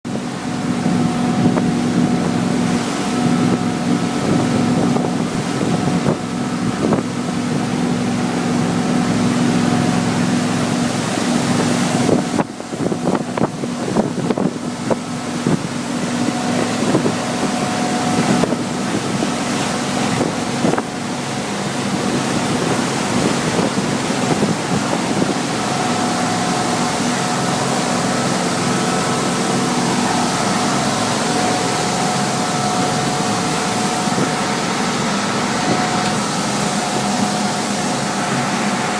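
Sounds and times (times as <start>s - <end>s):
motorboat engine running: 0.0s - 38.9s
wind and water noise: 0.0s - 38.9s.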